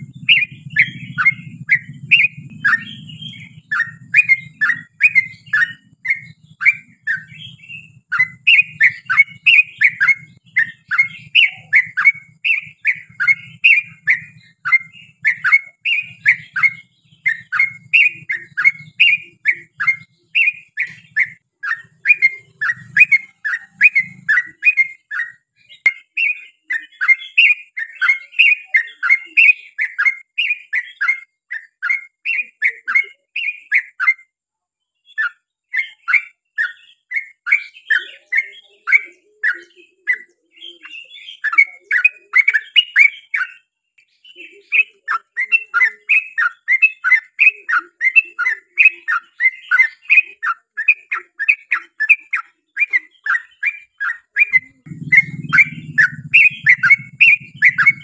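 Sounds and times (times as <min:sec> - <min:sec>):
bird chattering song: 0:00.0 - 0:34.3, 0:35.0 - 0:58.0.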